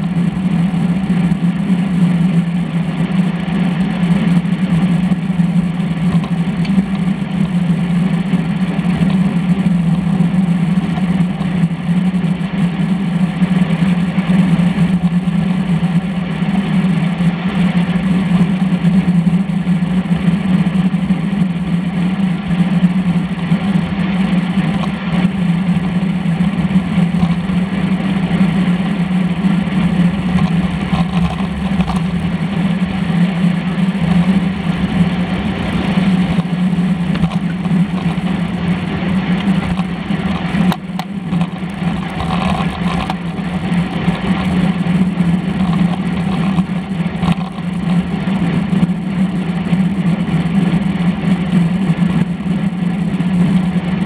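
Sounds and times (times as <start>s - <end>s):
constant low hum: 0.0s - 54.0s
road vibration: 0.0s - 54.0s
wind rush: 0.0s - 54.0s.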